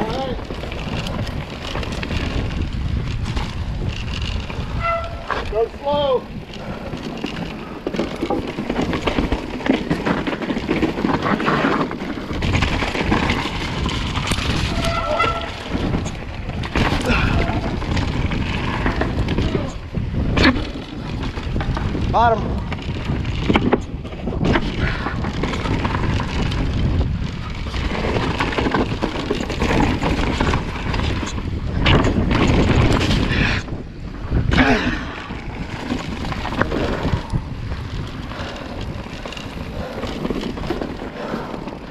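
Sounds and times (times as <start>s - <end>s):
bike rattling and knocking: 0.0s - 41.9s
bike tyres on dirt: 0.0s - 41.9s
wind on microphone: 0.0s - 41.9s.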